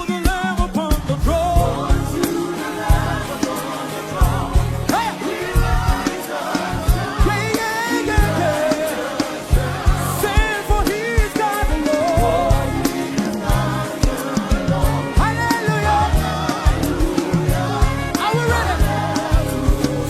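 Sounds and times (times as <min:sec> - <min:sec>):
bass and drum beat: 0:00.0 - 0:20.0
gospel singing voices: 0:00.0 - 0:20.0.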